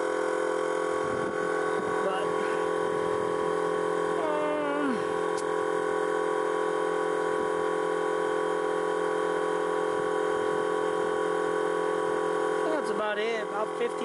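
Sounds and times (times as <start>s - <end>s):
air compressor whining: 0.0s - 14.0s.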